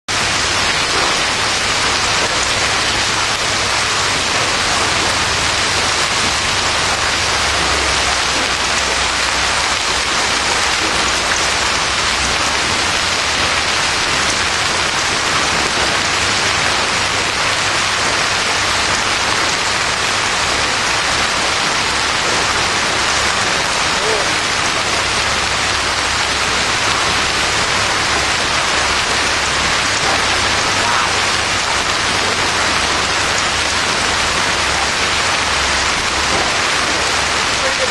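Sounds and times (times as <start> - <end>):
heavy rain and hail pelting: 0.1 - 37.9.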